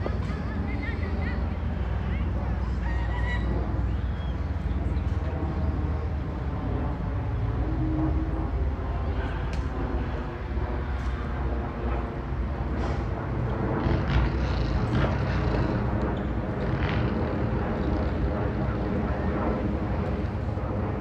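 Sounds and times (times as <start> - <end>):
faint indistinct voices: 0.0 - 20.8
low outdoor rumble: 0.0 - 21.0.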